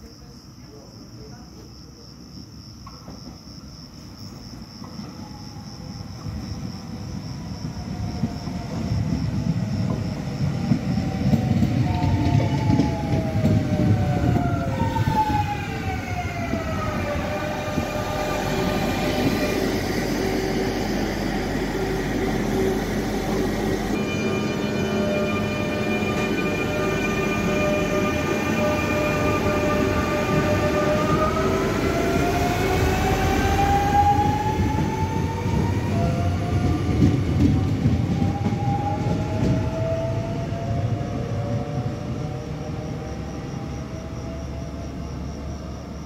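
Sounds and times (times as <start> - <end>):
cricket trill: 0.0 - 36.9, 39.6 - 46.0
train wheels rumbling on track: 2.4 - 46.0
stopped train humming: 6.1 - 46.0
train whine falling in pitch: 7.9 - 45.5.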